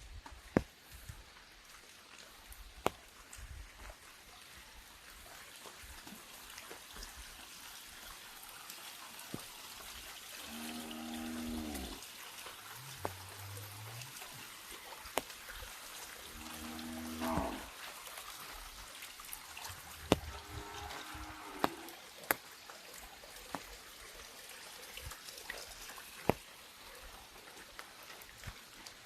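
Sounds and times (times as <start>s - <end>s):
drips on umbrella: 0.0s - 29.0s
rain falling and trickling: 0.0s - 29.0s.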